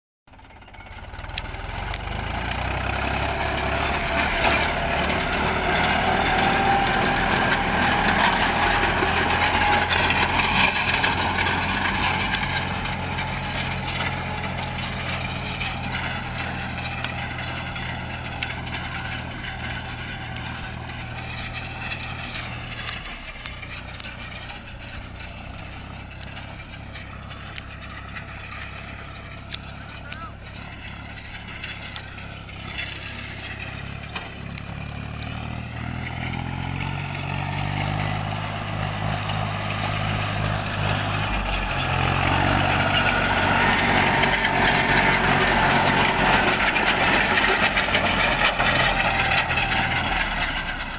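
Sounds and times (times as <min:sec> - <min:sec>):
tractor diesel engine running: 0:00.3 - 0:50.9.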